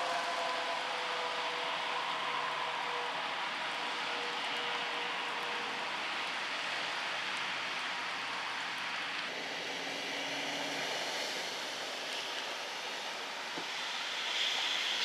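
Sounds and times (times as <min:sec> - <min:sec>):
floodwater rushing under vehicle: 0:00.0 - 0:15.0
car dragged through deep water: 0:00.1 - 0:15.0.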